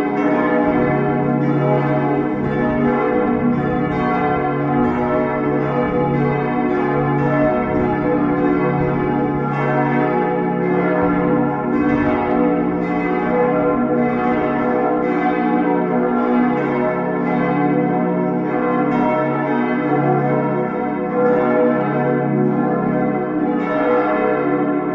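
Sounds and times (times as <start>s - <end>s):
church bells pealing: 0.0s - 24.9s.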